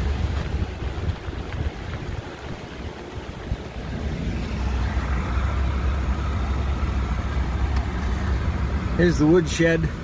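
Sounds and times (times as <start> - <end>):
truck engine and road hum: 0.0 - 10.0.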